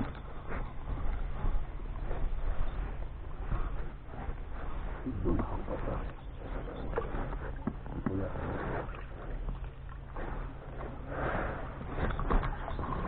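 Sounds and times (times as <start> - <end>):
oars stroking through water: 0.0 - 13.0.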